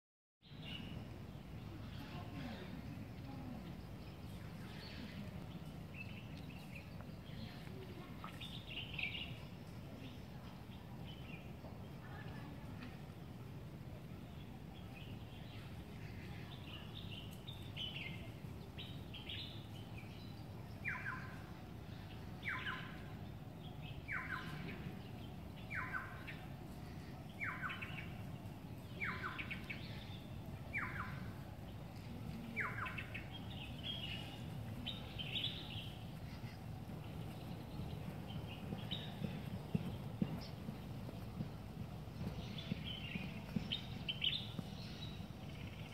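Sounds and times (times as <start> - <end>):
low background noise: 0.4 - 45.9.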